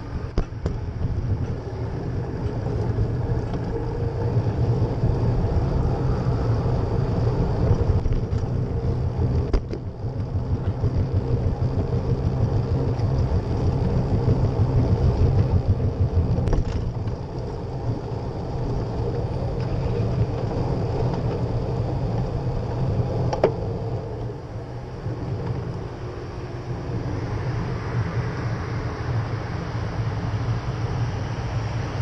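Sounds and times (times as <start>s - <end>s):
bicycle road noise on asphalt: 0.0s - 32.0s
wind buffeting microphone: 0.0s - 32.0s.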